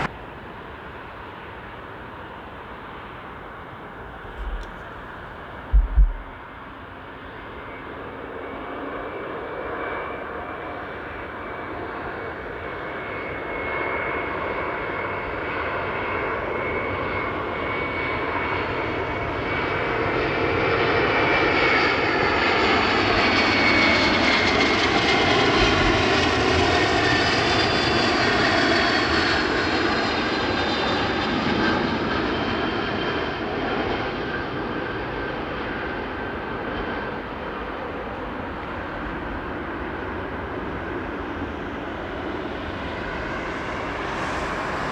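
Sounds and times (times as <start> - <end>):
jet airliner flying past: 0.0 - 44.9.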